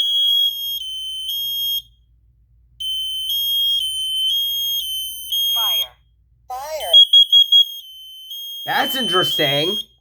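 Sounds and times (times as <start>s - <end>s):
smoke alarm beeping: 0.0s - 2.0s, 2.8s - 10.0s.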